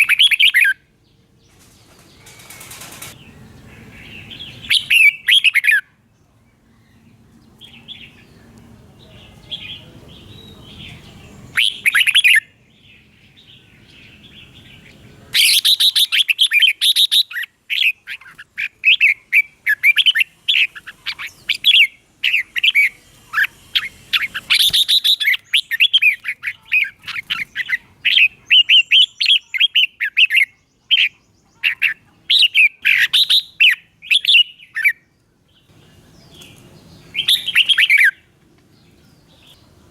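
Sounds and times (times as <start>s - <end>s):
birds singing warbling notes: 0.0s - 39.9s.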